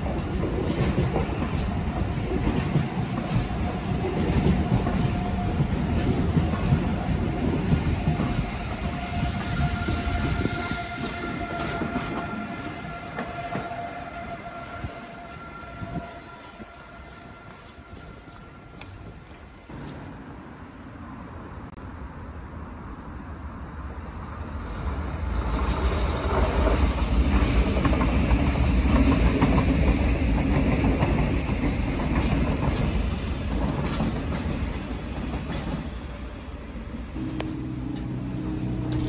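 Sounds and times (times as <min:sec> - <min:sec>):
electric train passing: 0:00.0 - 0:39.0.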